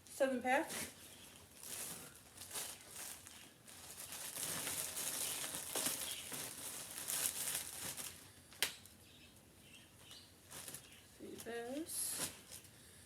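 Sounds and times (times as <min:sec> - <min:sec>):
plastic packaging crinkling: 0:00.7 - 0:09.2, 0:10.0 - 0:12.8.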